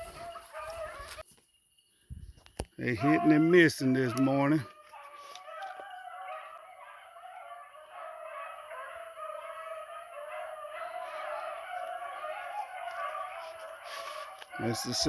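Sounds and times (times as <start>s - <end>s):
distant hounds baying: 0.0s - 1.2s, 2.8s - 15.0s.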